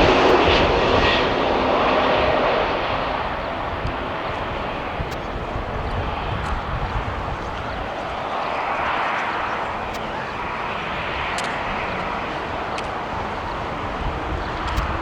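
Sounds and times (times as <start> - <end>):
jet airliner engine rushing: 0.0 - 15.0.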